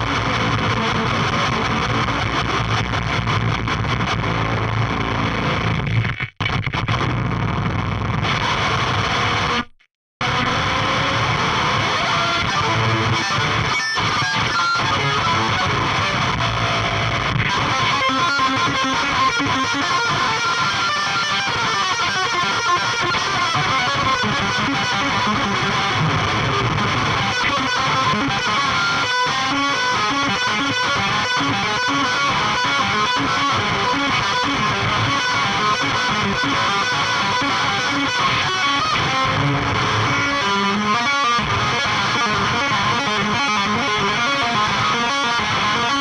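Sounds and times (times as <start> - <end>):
heavily distorted electric guitar: 0.0 - 46.0.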